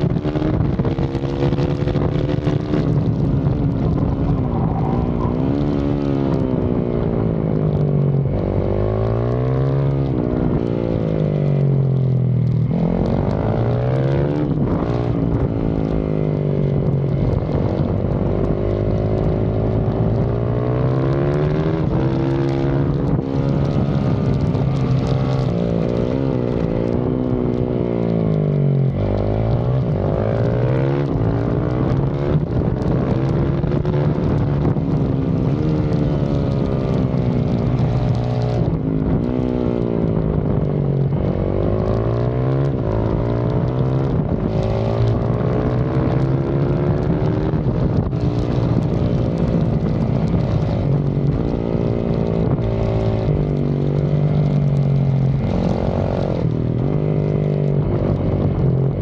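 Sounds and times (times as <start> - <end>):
motorcycle engine racing: 0.0 - 59.0.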